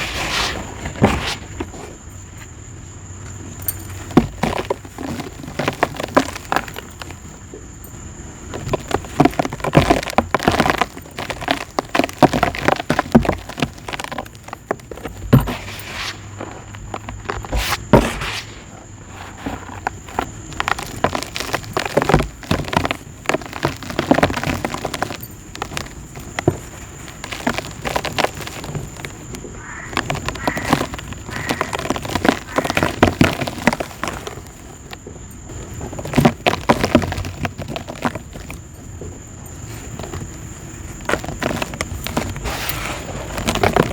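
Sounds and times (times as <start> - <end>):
dirt crumbling with gritty crackles: 0.0 - 43.9.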